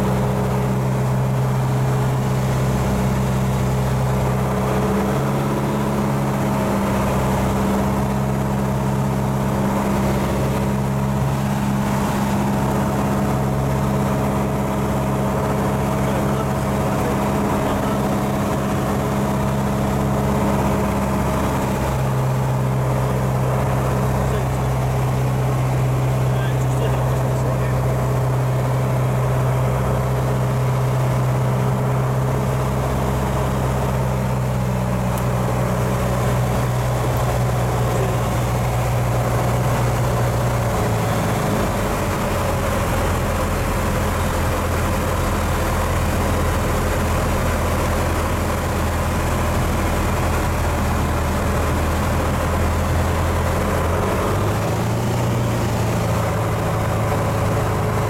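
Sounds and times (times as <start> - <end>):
aircraft engine and propeller droning: 0.0 - 58.0.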